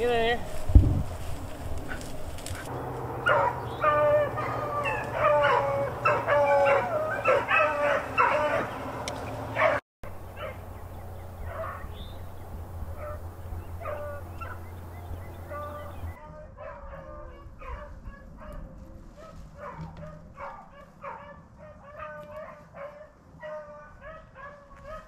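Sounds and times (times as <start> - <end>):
beagles baying: 1.5 - 25.0.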